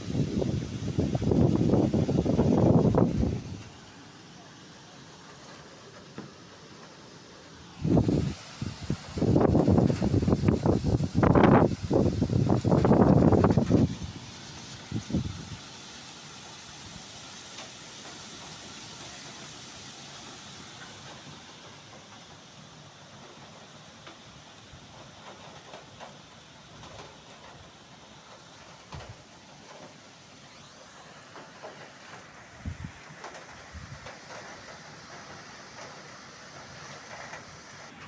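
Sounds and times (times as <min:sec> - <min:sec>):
heavy rain hiss: 0:00.0 - 0:38.0.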